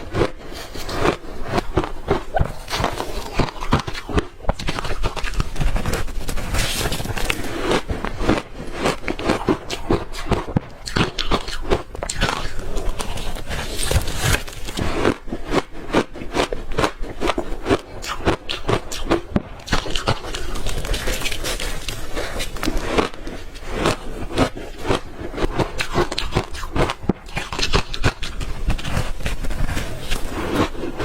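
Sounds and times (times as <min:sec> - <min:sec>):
person chewing crunchy ice: 0:00.0 - 0:31.0.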